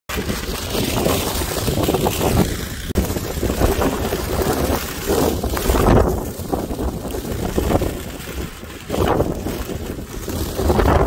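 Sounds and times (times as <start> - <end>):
wind buffeting microphone: 0.1 - 11.0.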